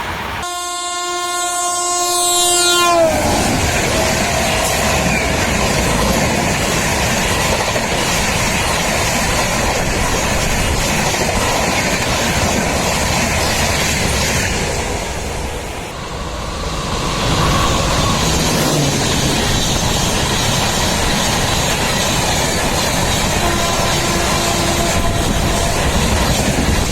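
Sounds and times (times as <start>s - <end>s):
train wheels rushing on rails: 2.2s - 26.9s.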